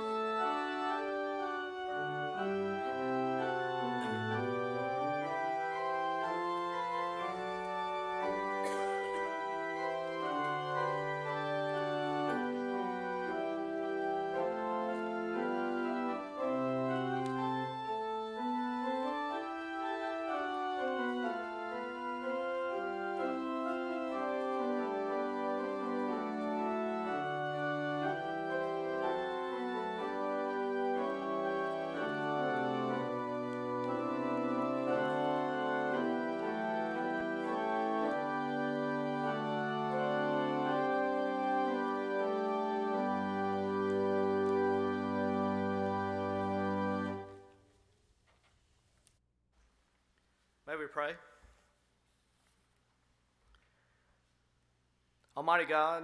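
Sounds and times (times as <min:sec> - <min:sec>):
church organ chords: 0:00.0 - 0:47.6.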